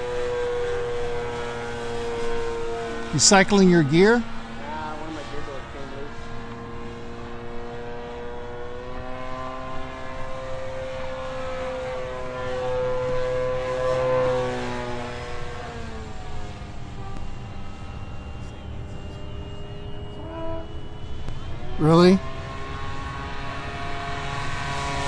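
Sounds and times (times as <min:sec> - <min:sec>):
model plane motor whining: 0:00.0 - 0:23.6.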